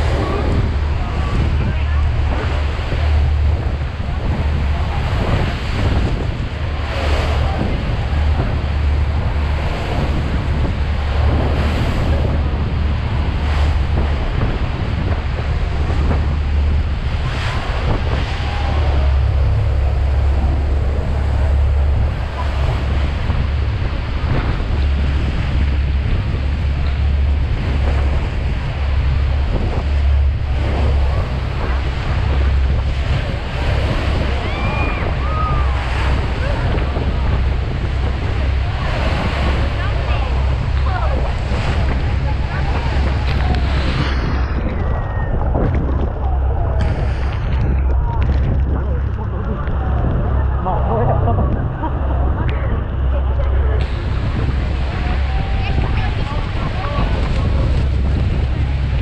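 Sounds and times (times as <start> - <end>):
low rumble: 0.0 - 59.0
waterfall roaring: 0.0 - 59.0
wind buffeting microphone: 0.0 - 59.0.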